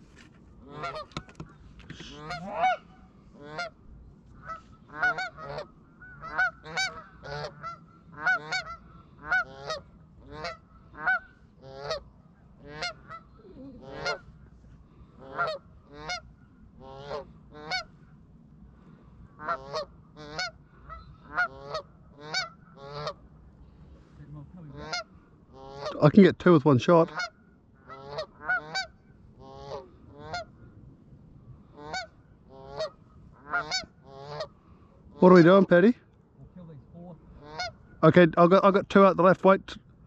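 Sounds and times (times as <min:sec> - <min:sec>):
geese honking: 0:00.6 - 0:18.0, 0:19.3 - 0:23.8, 0:24.7 - 0:26.1, 0:27.0 - 0:30.6, 0:31.7 - 0:35.6, 0:37.3 - 0:39.1.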